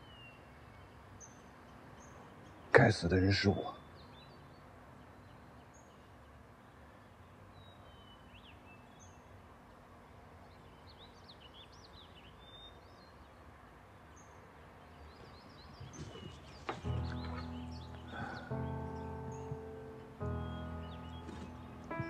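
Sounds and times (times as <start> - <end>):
distant birds chirping: 0.0 - 22.0.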